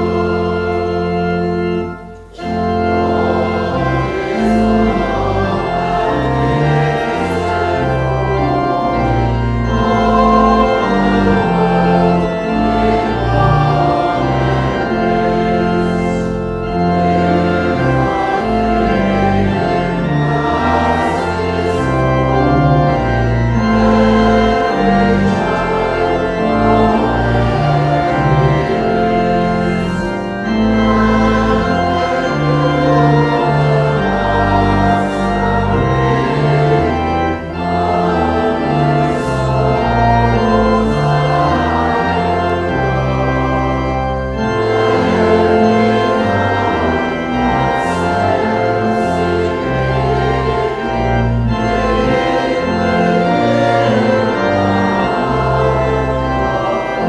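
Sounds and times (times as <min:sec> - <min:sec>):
organ chords over bass line: 0:00.0 - 0:57.0.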